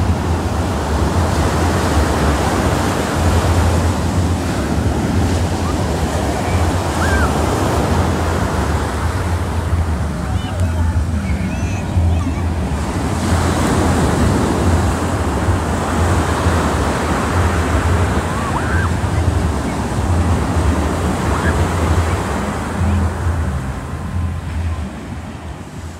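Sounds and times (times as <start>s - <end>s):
ocean surf breaking: 0.0s - 25.9s
wind buffeting microphone: 0.0s - 25.9s.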